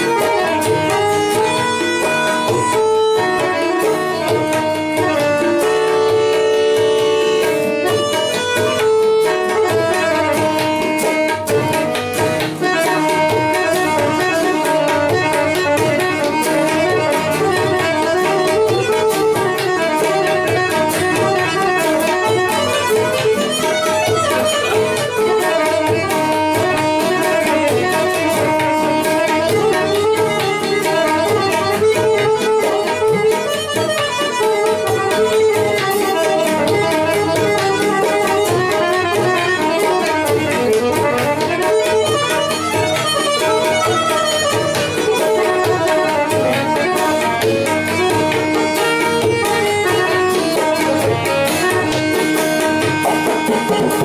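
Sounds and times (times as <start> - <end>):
harmonium melody: 0.0 - 54.0
tabla drumming: 0.0 - 54.0.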